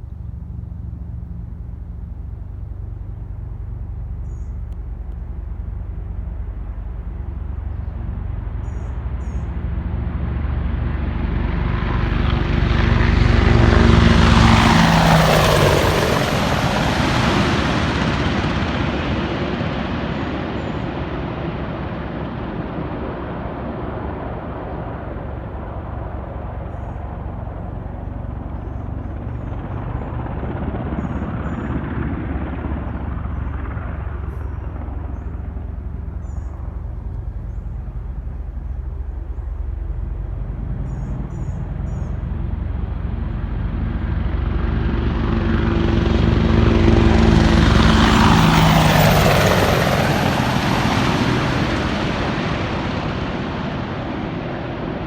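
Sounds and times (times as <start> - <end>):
helicopters rumbling and passing: 0.0 - 55.0.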